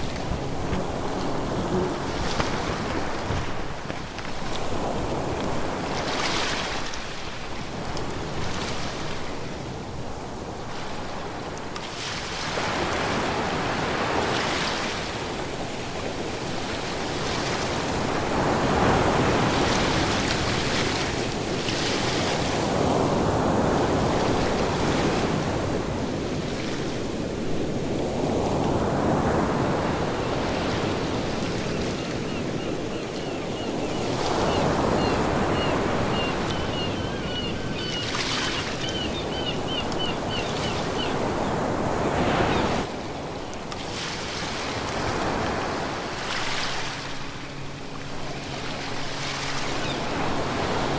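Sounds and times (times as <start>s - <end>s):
ocean waves breaking: 0.0s - 11.2s, 11.9s - 50.9s.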